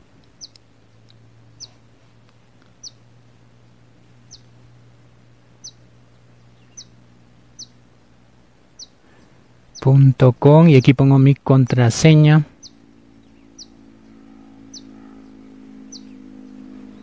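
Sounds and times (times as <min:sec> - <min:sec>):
faint low hum: 0:00.0 - 0:17.0
small bird chirping: 0:00.2 - 0:04.8, 0:05.5 - 0:11.4, 0:12.1 - 0:17.0.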